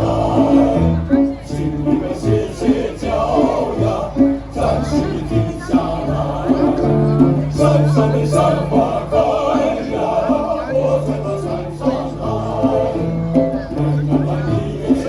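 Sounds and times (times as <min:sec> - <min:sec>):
held bass notes: 0:00.0 - 0:15.0
music with singing voices: 0:00.0 - 0:15.0.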